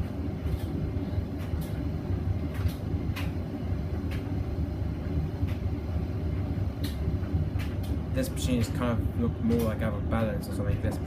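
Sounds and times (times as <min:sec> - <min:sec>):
washing machine drum rumbling: 0:00.0 - 0:11.0.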